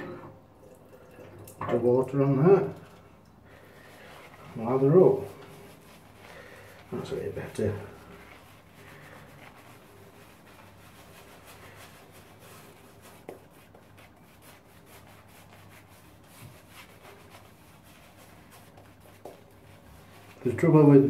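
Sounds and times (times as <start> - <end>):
brush bristles rubbing on skin: 3.6 - 21.0.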